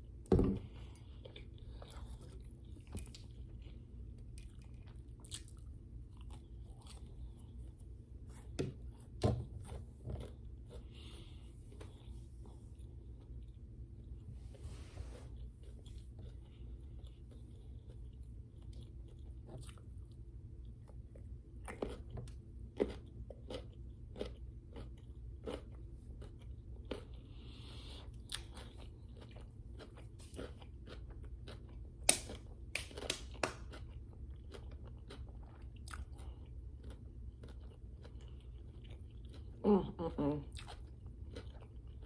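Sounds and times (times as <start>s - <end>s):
chewing crisp food: 0.6s - 14.3s, 15.2s - 42.0s.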